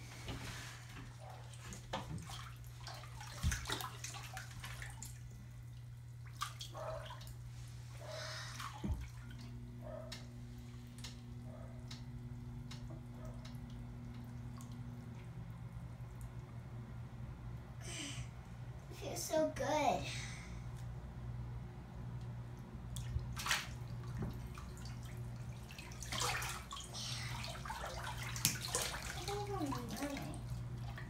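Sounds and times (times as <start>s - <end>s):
bathwater sloshing and dripping: 0.0s - 19.3s, 22.1s - 31.0s
steady low hum: 0.0s - 31.0s.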